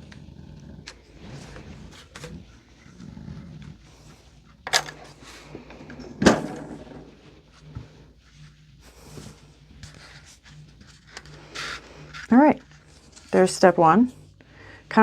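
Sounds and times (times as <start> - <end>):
scraping and rustling on tabletop: 0.0 - 13.5.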